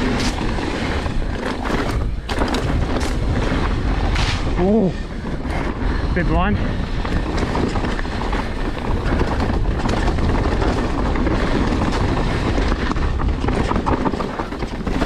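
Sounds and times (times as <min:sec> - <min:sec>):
tyres crunching over dirt: 0:00.0 - 0:04.9, 0:06.2 - 0:15.0
bike rattling over bumps: 0:00.0 - 0:15.0.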